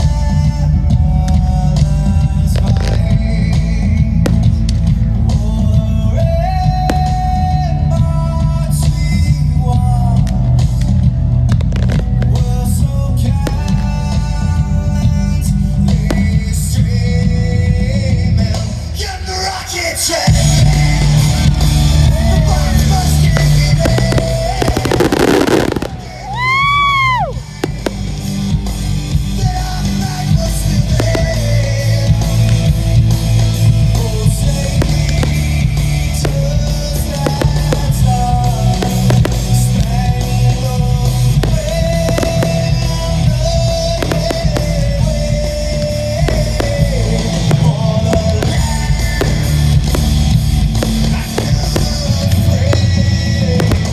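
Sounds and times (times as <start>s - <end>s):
rock music with guitar and bass: 0.0s - 53.9s
firework bangs: 1.1s - 53.9s.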